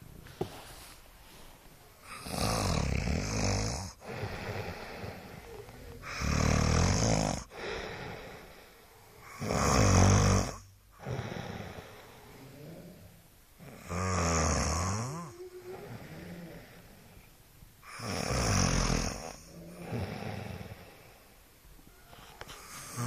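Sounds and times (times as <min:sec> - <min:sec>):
quiet breaths: 0:00.0 - 0:23.0
person snoring: 0:02.0 - 0:17.2, 0:17.8 - 0:21.3, 0:22.2 - 0:23.0.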